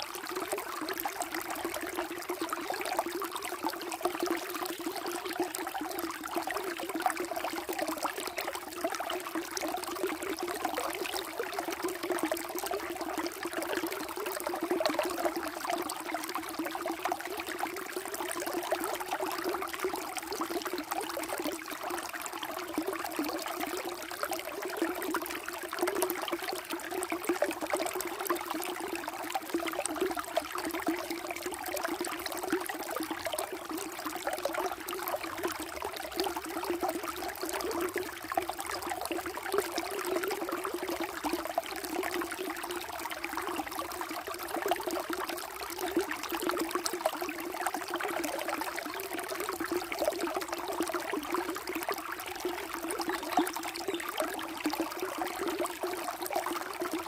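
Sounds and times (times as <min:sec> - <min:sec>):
water flowing and trickling: 0:00.0 - 0:57.0.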